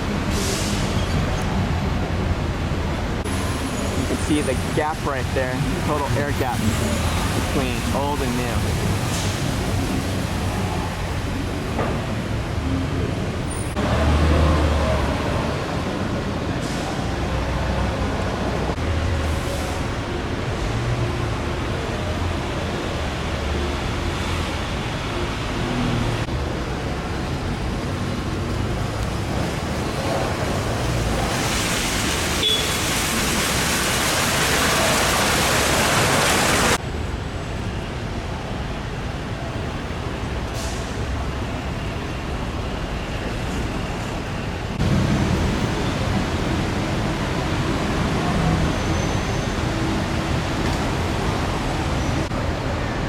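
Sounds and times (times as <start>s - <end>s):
road traffic rush: 0.0s - 53.0s.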